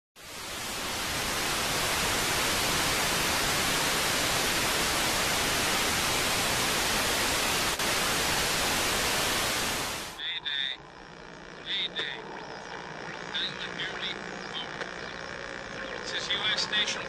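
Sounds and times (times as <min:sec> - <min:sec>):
television static hiss: 0:00.2 - 0:17.0.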